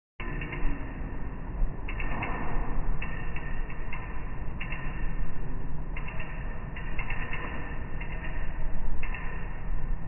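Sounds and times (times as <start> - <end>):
fidget spinner whirring: 0.2 - 10.0.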